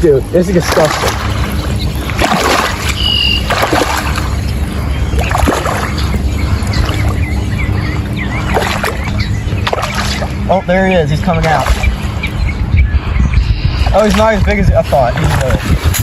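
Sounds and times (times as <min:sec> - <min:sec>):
steady low rumble: 0:00.0 - 0:16.0
water splashing and sloshing: 0:00.0 - 0:16.0.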